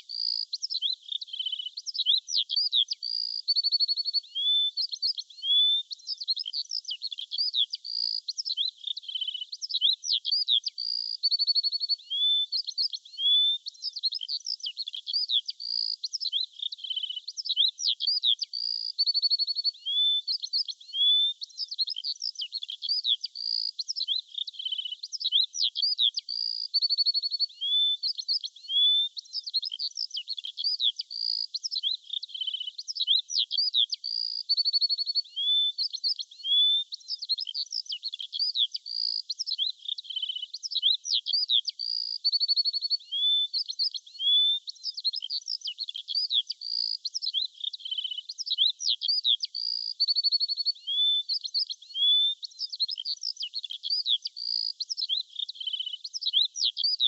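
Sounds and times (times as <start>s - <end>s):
birdsong chirps and trills: 0.0s - 57.0s.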